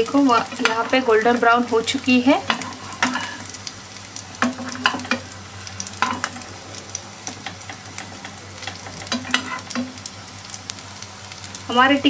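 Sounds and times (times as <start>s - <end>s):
patties frying in oil: 0.0s - 12.0s.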